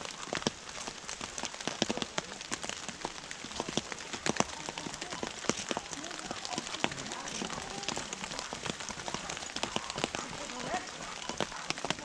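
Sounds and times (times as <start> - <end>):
raindrops tapping on a surface: 0.0 - 12.0
steady rain hiss: 0.0 - 12.0.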